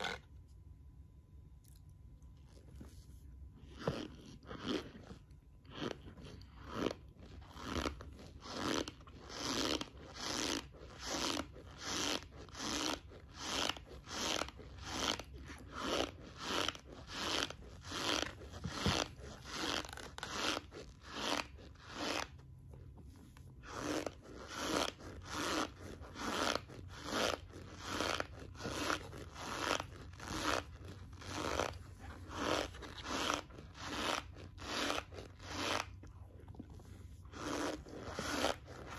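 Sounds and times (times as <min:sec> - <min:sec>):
chewing crunchy cornstarch: 0:01.6 - 0:22.6, 0:23.2 - 0:38.9.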